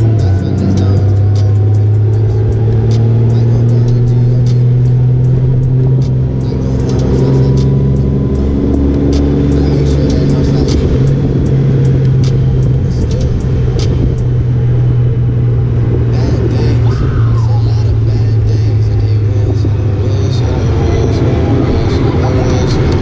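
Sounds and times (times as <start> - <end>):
motorcycle engine drone: 0.0 - 23.0
road and wind noise: 0.0 - 23.0.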